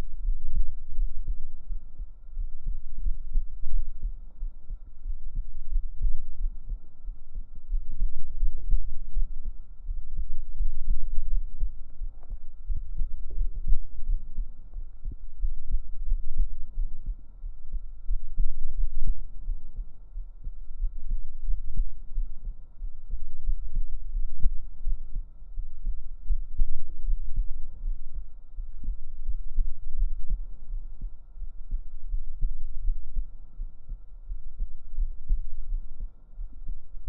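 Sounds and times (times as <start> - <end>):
faint high hum: 0.0 - 37.0
heartbeat beating steadily: 0.0 - 37.0.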